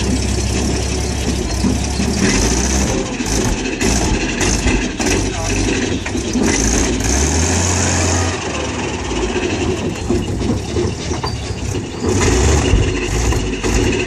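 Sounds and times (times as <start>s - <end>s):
tracked vehicle engine running: 0.0s - 14.0s
tracks clanking over ground: 0.0s - 14.0s.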